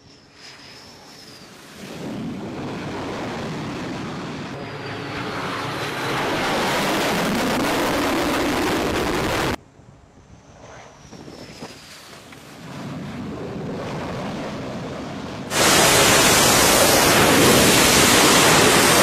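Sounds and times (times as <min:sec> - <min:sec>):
jet engine rushing: 0:00.0 - 0:19.0.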